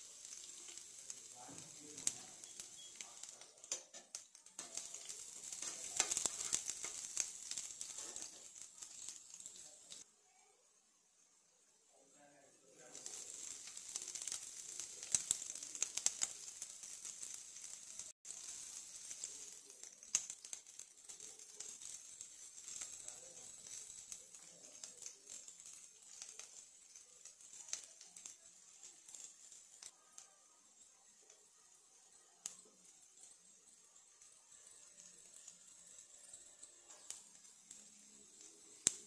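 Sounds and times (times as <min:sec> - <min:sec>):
oil popping and crackling: 0:00.0 - 0:10.0, 0:12.8 - 0:39.0
chillies and garlic sizzling in oil: 0:00.0 - 0:39.0.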